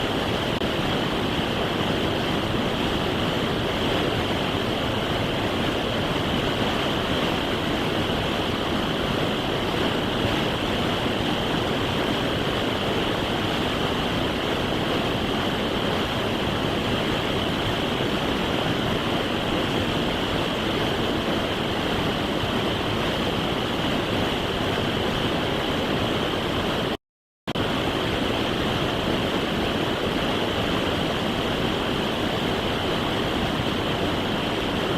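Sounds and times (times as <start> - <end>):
fast creek water rushing: 0.0 - 34.9.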